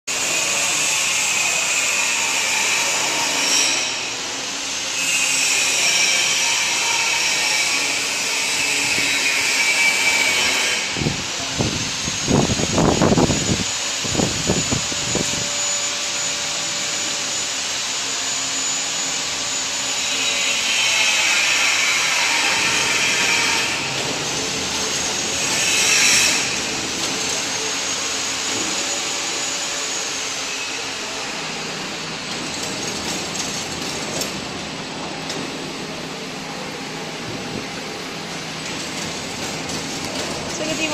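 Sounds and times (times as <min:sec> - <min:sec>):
machine whirring: 0:00.1 - 0:40.9.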